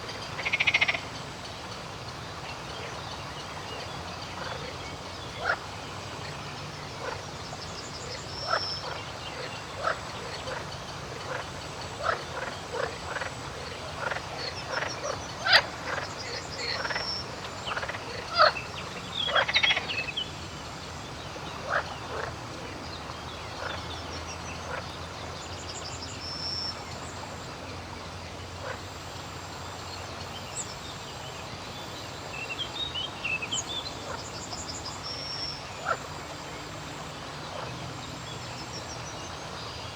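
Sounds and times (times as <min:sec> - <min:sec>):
frogs croaking: 0:00.0 - 0:01.2, 0:07.0 - 0:22.5, 0:23.2 - 0:39.9
steady outdoor hiss: 0:00.0 - 0:39.9.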